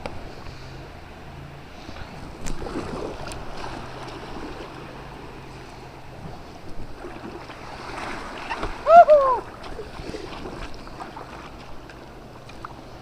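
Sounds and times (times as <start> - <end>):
river water rushing and splashing: 0.0 - 13.0.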